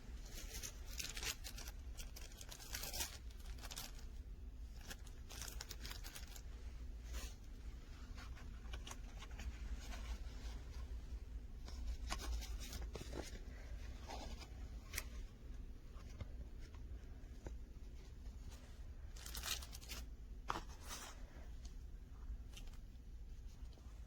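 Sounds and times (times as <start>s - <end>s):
faint rustles and clicks: 0.0s - 24.0s
low steady hum: 0.0s - 24.0s.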